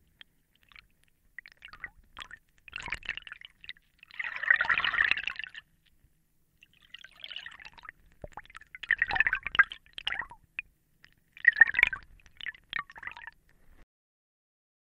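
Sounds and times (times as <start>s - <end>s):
air bubbles gurgling underwater: 0.0s - 5.6s, 6.6s - 13.4s.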